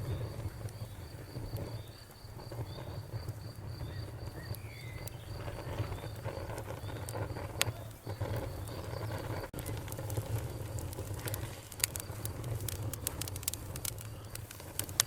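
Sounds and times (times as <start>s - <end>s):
cricket chirping: 0.0s - 12.4s
wood fire crackling and popping: 0.0s - 15.0s.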